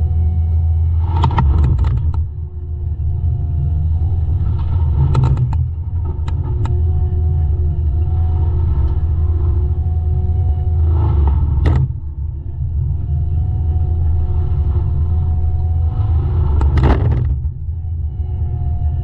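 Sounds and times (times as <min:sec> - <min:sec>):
diesel heavy equipment rumbling: 0:00.0 - 0:19.0
steady mechanical whine: 0:00.0 - 0:19.0.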